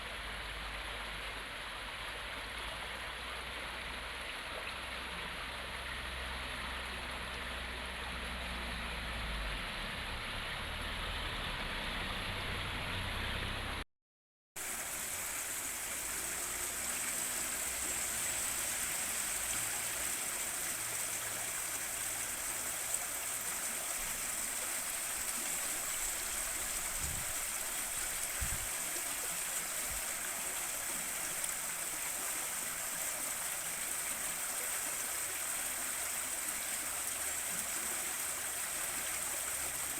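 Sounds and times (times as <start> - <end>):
river water flowing over stones: 0.0 - 13.7, 14.6 - 39.9.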